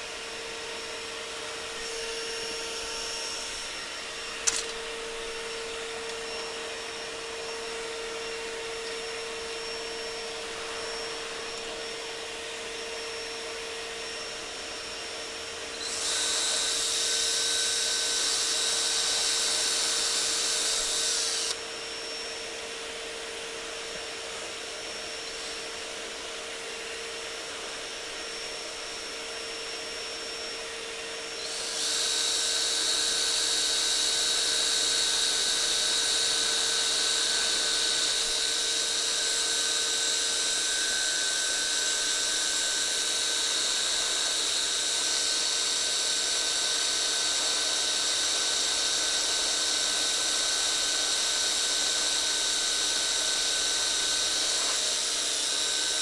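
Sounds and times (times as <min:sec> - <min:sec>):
electric drill whining: 0:00.0 - 0:56.0.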